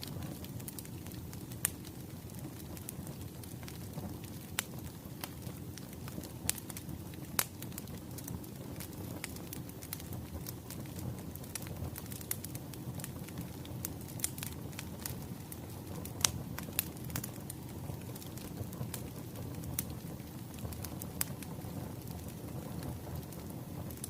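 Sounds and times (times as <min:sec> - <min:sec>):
fire pops and snaps: 0:00.0 - 0:24.0
low rumble of burning: 0:00.0 - 0:24.0
wood fire crackling: 0:00.0 - 0:24.0.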